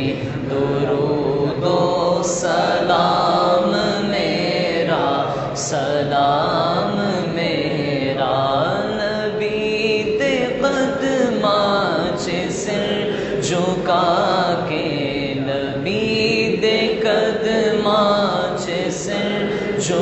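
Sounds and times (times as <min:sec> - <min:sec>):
men and boys chanting: 0:00.0 - 0:20.0.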